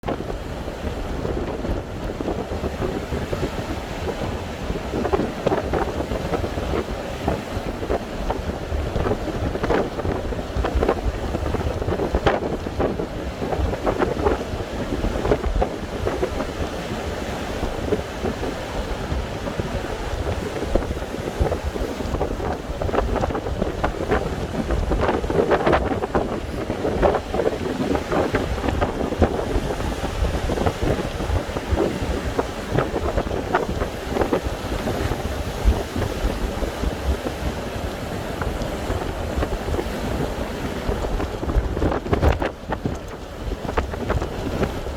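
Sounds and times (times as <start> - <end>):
big waves surging: 0.0 - 44.9
heavy sea surf: 0.0 - 44.9
wind buffeting microphone: 0.0 - 44.9.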